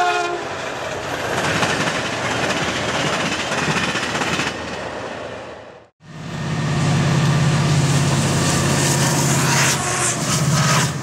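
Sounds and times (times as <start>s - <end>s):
diesel locomotive engine drone: 0.0s - 11.0s
passenger train cars rolling past: 0.0s - 11.0s.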